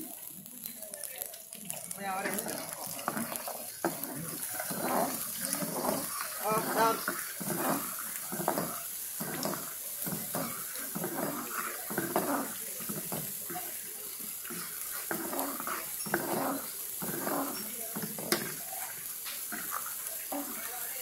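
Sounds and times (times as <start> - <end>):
ladle scraping and tapping pot: 2.2 - 13.8, 14.4 - 20.6.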